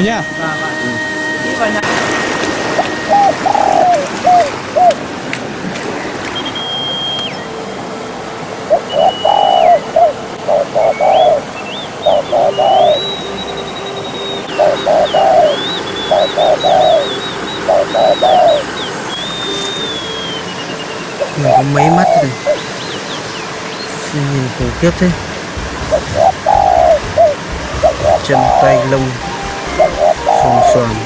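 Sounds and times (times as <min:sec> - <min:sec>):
thin wavering bird whistle: 0:00.0 - 0:05.0, 0:06.3 - 0:07.8, 0:08.7 - 0:24.0, 0:25.9 - 0:31.0.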